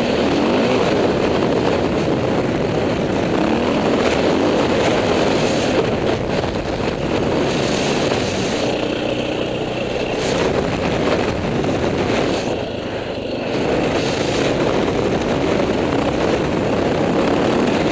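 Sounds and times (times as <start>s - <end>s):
dirt bike engine: 0.0s - 17.9s.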